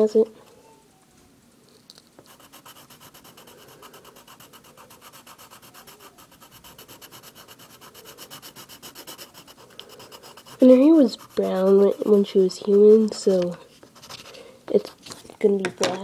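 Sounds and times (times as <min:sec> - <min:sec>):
colored pencil scratching on paper: 0:02.2 - 0:15.2.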